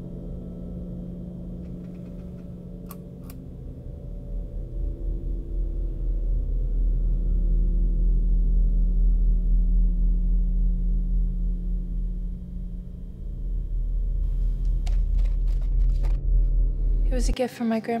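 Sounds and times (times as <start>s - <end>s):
deep resonant drone: 0.0s - 14.6s.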